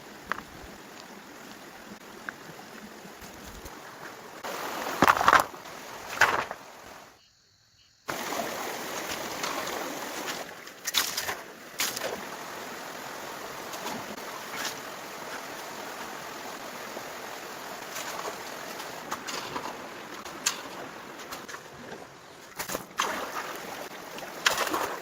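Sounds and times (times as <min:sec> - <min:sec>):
running water: 0:00.0 - 0:07.1, 0:08.1 - 0:25.0.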